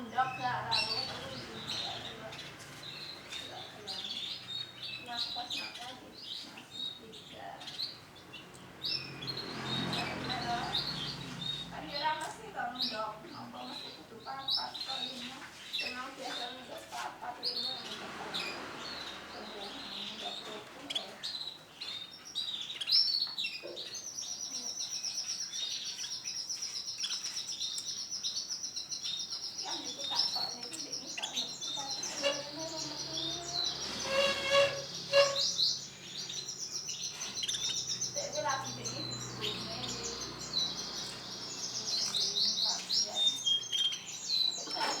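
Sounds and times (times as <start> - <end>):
canary singing: 0.0 - 45.0.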